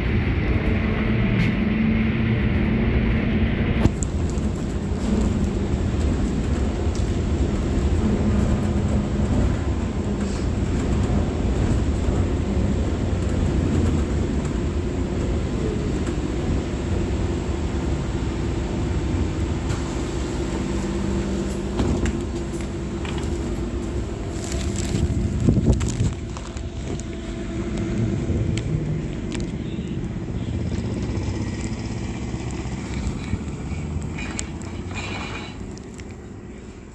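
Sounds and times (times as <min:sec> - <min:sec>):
trolleybus rumble: 0:00.0 - 0:36.9.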